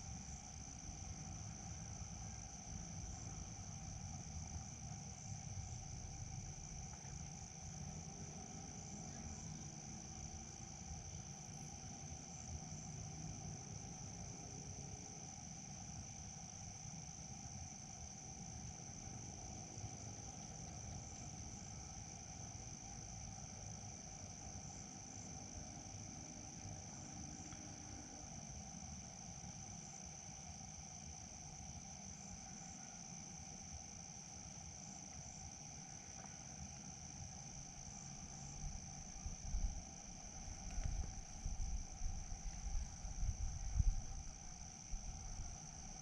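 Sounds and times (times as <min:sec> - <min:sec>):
crickets trilling: 0:00.0 - 0:46.0
insects droning: 0:00.0 - 0:46.0.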